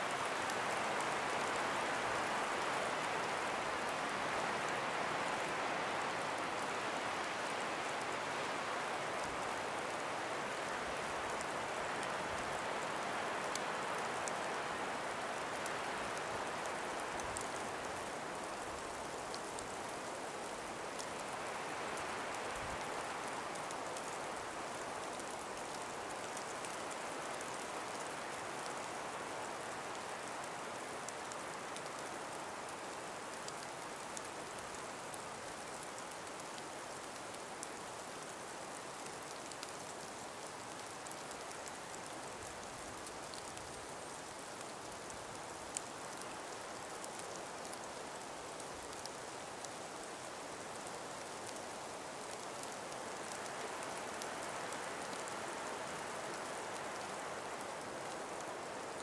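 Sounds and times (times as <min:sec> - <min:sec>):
breeze through forest: 0:00.0 - 0:59.0
faint scattered ticks: 0:08.5 - 0:59.0.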